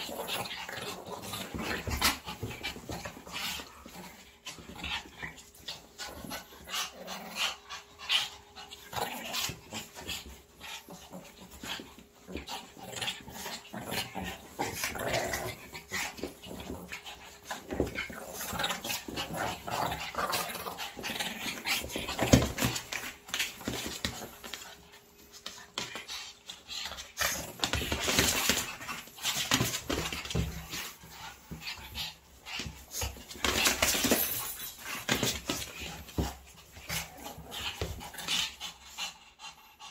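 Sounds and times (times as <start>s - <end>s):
paws scuffling on a quilt: 0.0s - 39.0s
dogs panting and snuffling: 0.0s - 39.9s
dogs play-growling: 0.0s - 39.9s.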